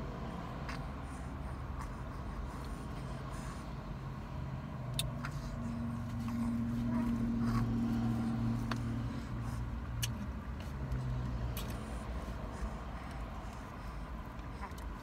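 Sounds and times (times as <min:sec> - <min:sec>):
low hum in car cabin: 0:00.0 - 0:15.0.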